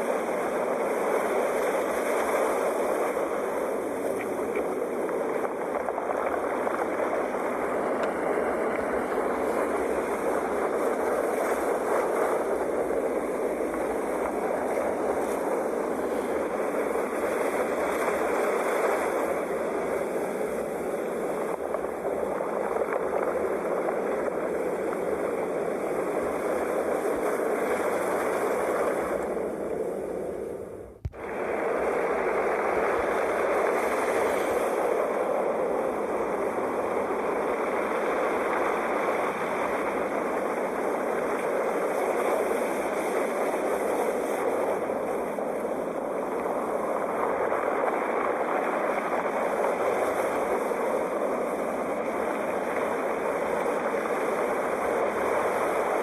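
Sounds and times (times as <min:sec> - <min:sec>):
ocean waves washing on shore: 0:00.0 - 0:56.0.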